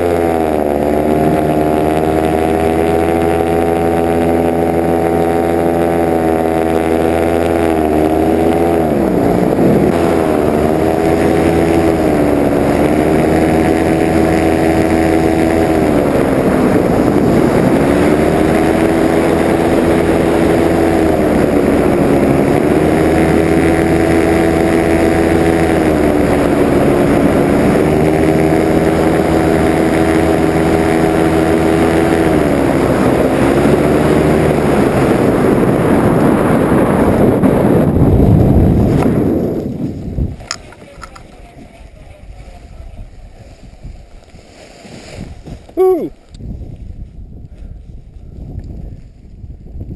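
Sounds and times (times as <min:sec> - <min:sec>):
paramotor engine and propeller: 0:00.0 - 0:49.9.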